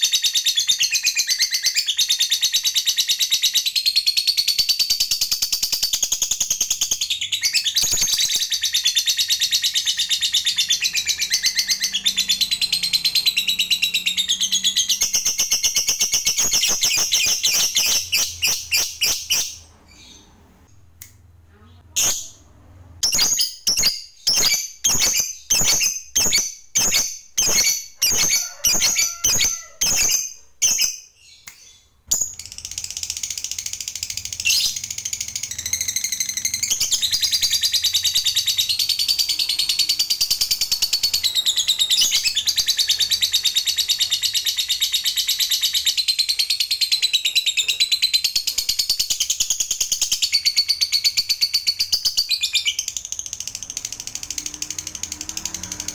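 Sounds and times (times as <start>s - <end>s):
lovebird chirping and trilling: 0.0s - 20.5s, 21.9s - 55.9s.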